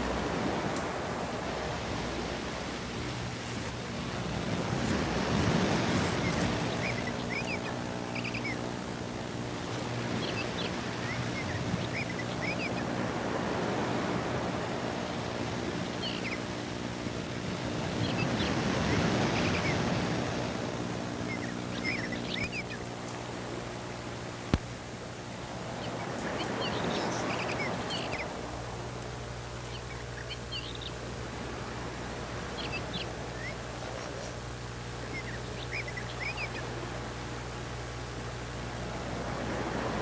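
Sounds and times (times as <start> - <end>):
low electrical hum: 0.0 - 40.0
steady hiss: 0.0 - 40.0.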